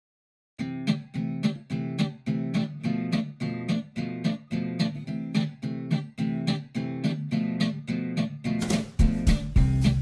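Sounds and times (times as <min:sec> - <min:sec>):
acoustic guitar strumming: 0:00.6 - 0:10.0.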